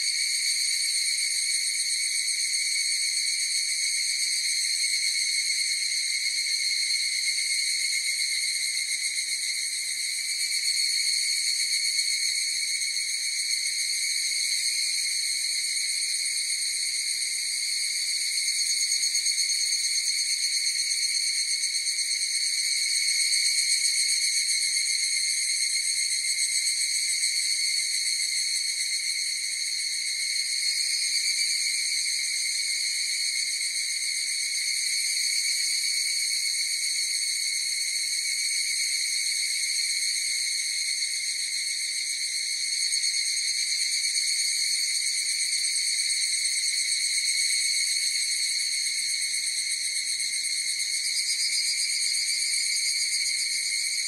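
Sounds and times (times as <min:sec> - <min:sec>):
cicadas chorus: 0:00.0 - 0:54.0.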